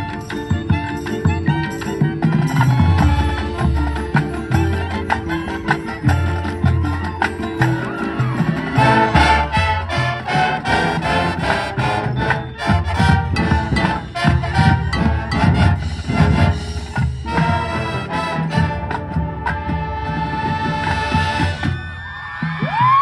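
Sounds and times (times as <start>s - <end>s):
brass section playing chords: 0.0s - 7.0s, 8.2s - 21.6s
percussion: 0.0s - 23.0s.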